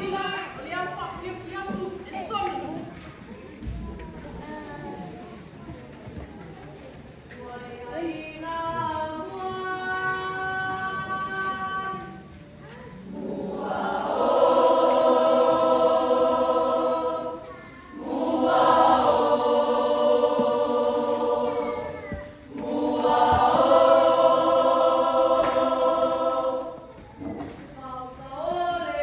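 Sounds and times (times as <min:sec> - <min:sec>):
children's choir singing: 0:00.0 - 0:02.0, 0:07.2 - 0:29.0.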